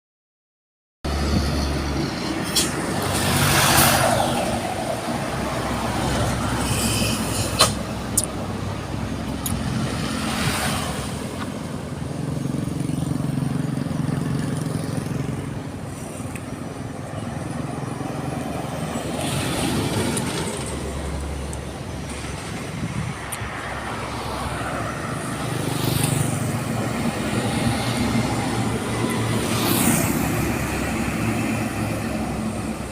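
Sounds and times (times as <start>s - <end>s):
heavy trucks passing: 1.1s - 32.9s.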